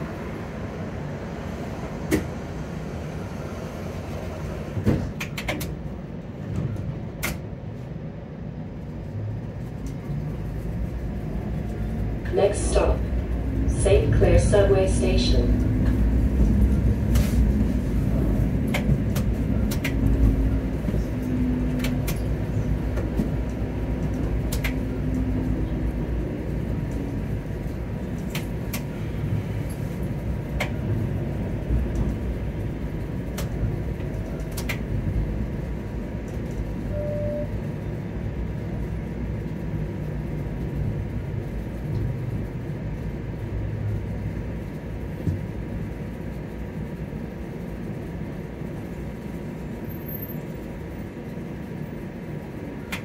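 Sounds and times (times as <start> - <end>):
streetcar rumbling on rails: 0.0 - 53.0.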